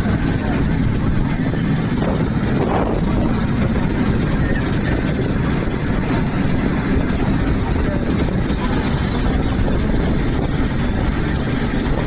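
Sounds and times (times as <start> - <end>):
boat engine running: 0.0 - 12.0
water rushing past hull: 0.0 - 12.0.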